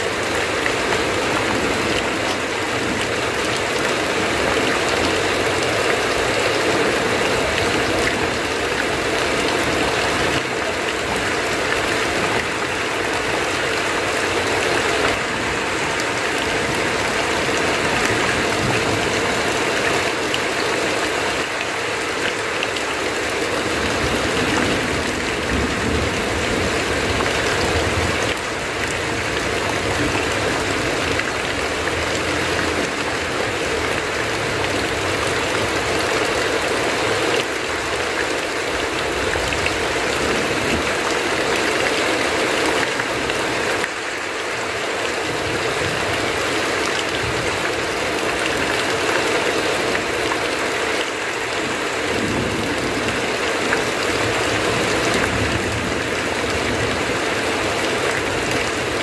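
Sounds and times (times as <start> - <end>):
heavy rain on a tin roof: 0.0 - 59.0
water pouring off a roof: 0.0 - 59.0.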